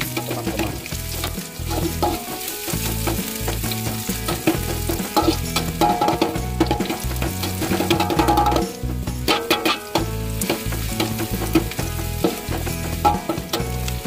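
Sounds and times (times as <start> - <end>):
metal spatula scraping a wok: 0.0 - 14.0
shallots and garlic sizzling in oil: 0.0 - 14.0.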